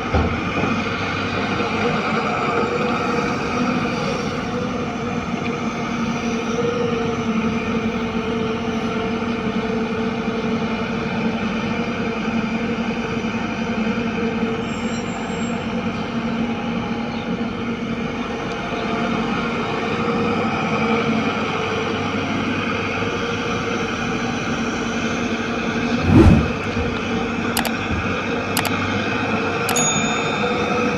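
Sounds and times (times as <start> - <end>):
heavy diesel engine droning: 0.0 - 30.9.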